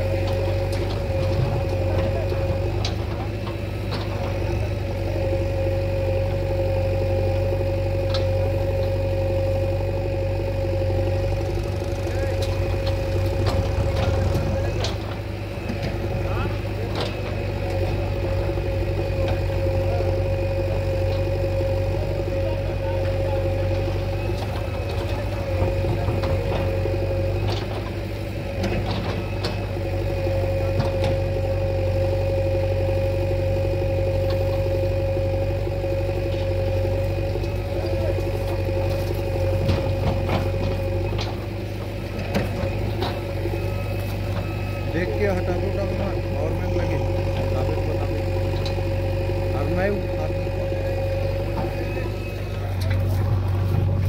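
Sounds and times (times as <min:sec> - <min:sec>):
constant whine: 0:00.0 - 0:54.0
diesel engine idling: 0:00.0 - 0:54.0.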